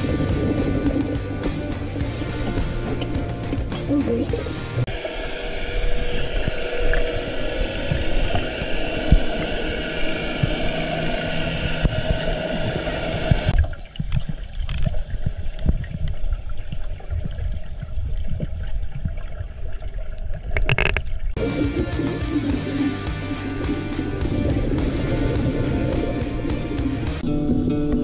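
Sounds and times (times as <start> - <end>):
muffled underwater water wash: 0.0 - 27.2.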